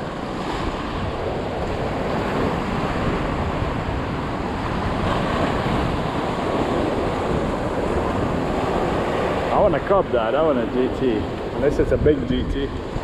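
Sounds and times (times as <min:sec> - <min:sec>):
surf breaking against jetty: 0:00.0 - 0:13.0
wind buffeting microphone: 0:00.0 - 0:13.0.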